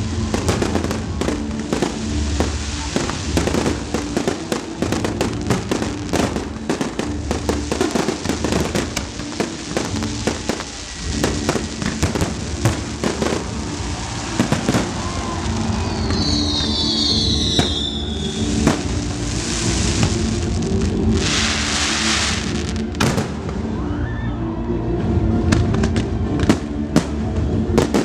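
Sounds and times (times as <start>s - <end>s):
fireworks bangs and crackling: 0.0s - 24.0s, 25.4s - 28.0s
music playing: 0.0s - 28.0s.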